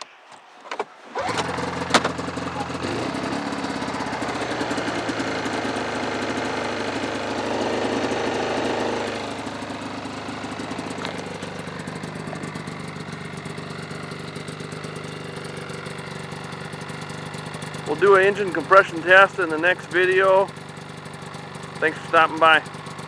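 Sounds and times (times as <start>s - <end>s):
snowmobile engine idling: 1.2s - 23.0s.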